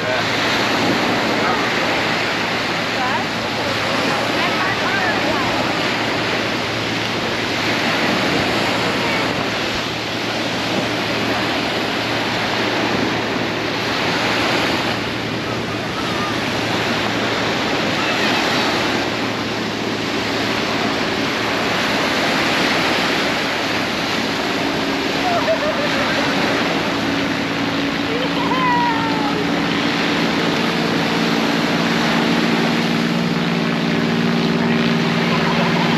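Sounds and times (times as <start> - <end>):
waves and rushing water: 0.0 - 35.9
wind buffeting microphone: 0.0 - 35.9.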